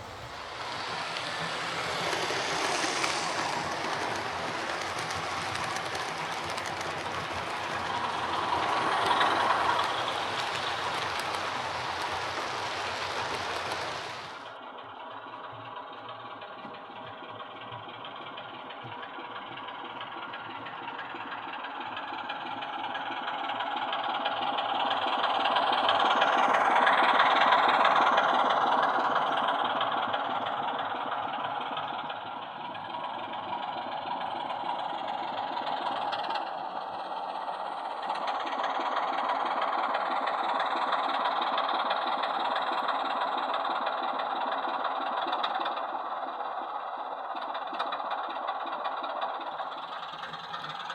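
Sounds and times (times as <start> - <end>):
model locomotive diesel engine sound: 0.0 - 50.9.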